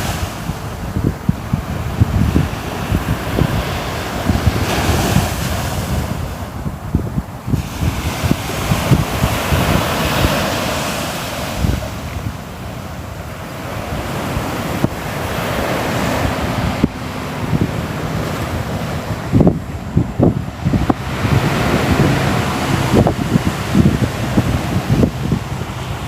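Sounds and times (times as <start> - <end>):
waves breaking on shore: 0.0 - 26.0
wind buffeting microphone: 0.0 - 26.0.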